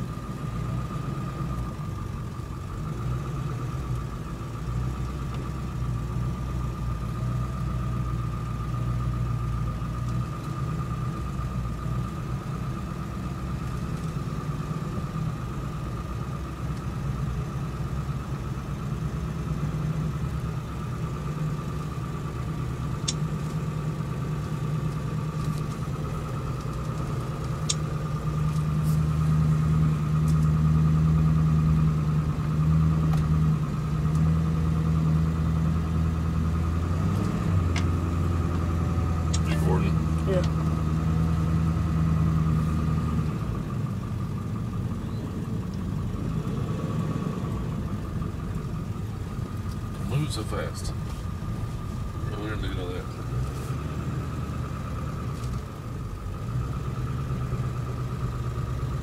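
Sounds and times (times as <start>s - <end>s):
faint steady whine: 0.0s - 59.0s
vehicle engine and road noise: 0.0s - 59.0s.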